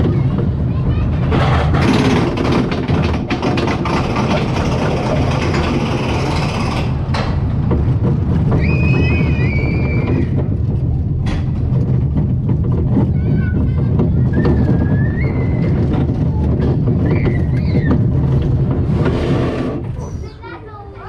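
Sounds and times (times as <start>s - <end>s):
roller coaster rumbling on track: 0.0s - 21.0s.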